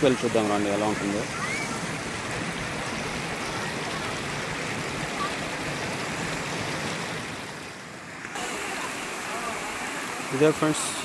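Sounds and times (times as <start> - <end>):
water cascading over rocks: 0.0 - 11.0.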